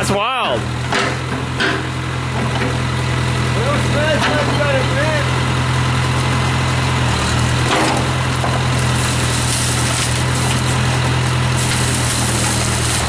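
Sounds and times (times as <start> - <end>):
backhoe engine running: 0.0 - 13.0.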